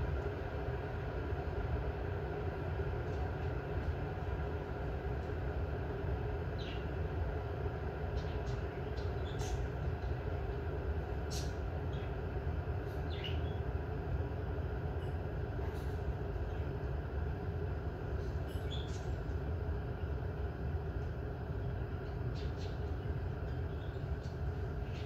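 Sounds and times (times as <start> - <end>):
electric kettle rumbling: 0.0 - 22.4.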